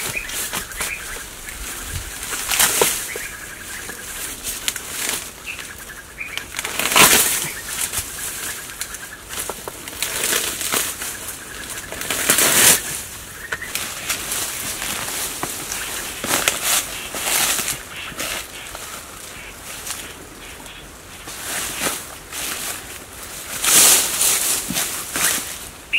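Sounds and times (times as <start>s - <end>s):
dry debris rustling and tearing: 0.0s - 25.9s.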